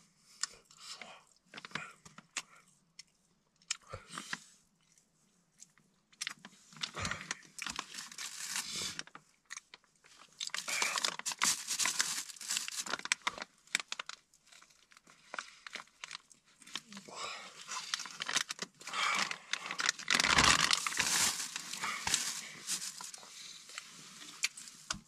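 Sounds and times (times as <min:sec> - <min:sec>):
crunchy chewing of frozen meat: 0:01.4 - 0:24.6.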